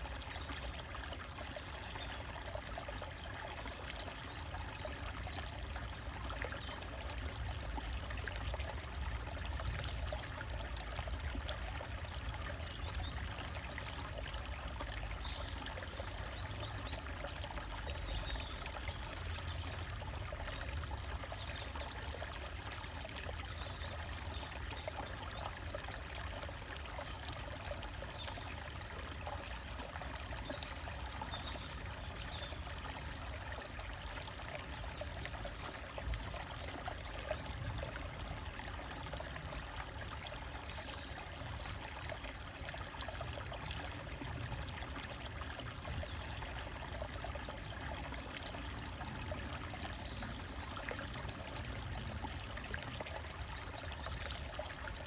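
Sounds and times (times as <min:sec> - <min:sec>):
stream trickling over rocks: 0:00.0 - 0:55.0.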